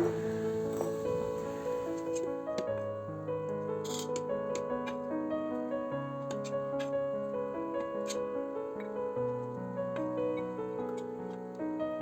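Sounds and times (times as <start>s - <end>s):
held piano-like notes: 0.0s - 12.0s.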